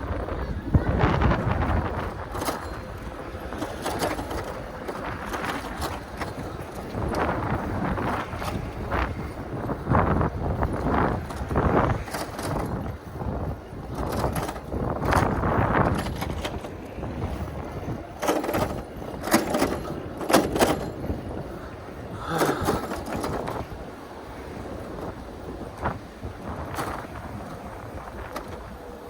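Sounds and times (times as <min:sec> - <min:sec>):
road and traffic noise: 0:00.0 - 0:29.0
wind buffeting microphone: 0:00.0 - 0:29.0.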